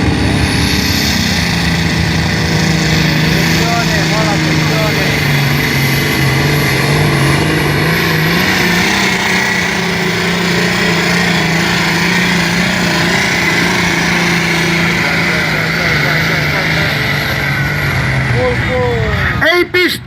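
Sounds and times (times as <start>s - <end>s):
high whine: 0.0s - 20.0s
tractor engine under load: 0.0s - 20.0s.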